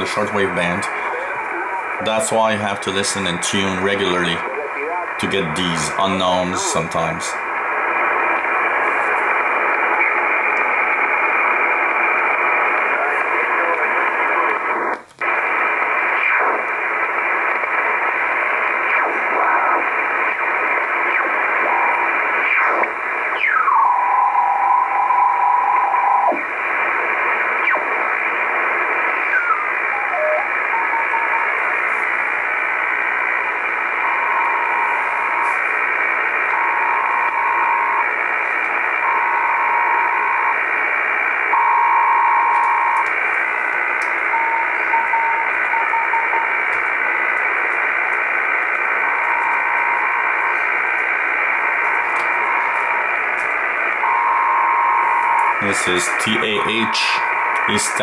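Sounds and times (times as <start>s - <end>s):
radio band noise hiss: 0.0s - 58.0s.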